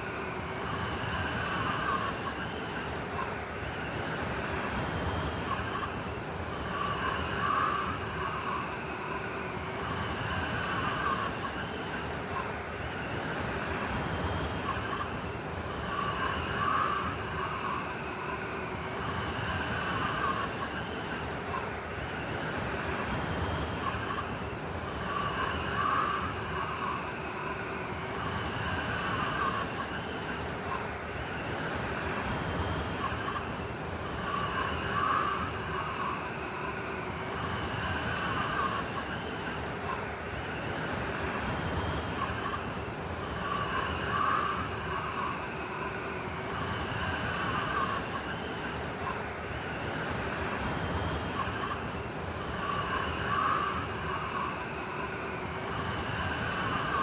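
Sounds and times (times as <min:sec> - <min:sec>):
blizzard wind whistling: 0:00.0 - 0:57.0.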